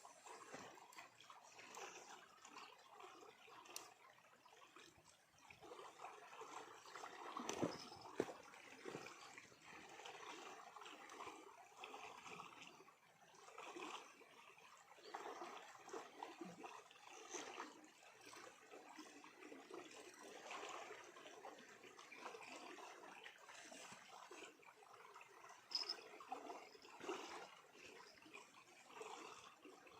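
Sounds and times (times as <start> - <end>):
faint stream trickling: 0.0 - 29.9.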